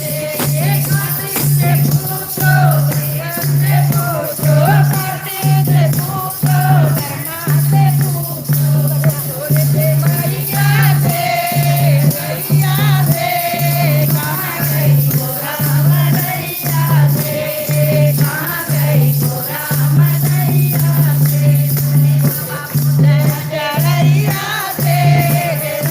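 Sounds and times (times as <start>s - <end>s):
percussion beat: 0.0s - 25.9s
person singing devotional melody: 0.0s - 25.9s.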